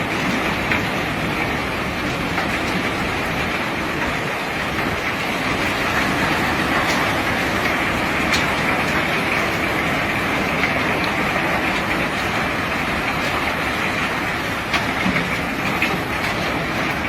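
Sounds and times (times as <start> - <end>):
rumbling of rock being unloaded: 0.0 - 17.0.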